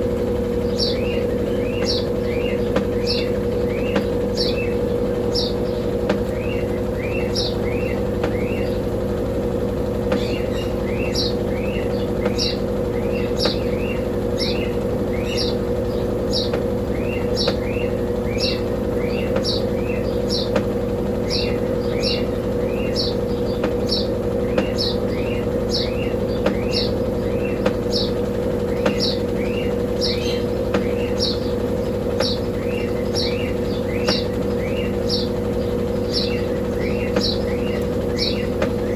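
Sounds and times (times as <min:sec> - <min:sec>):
washing machine spinning: 0:00.0 - 0:38.9
small bird chirping: 0:00.3 - 0:38.9.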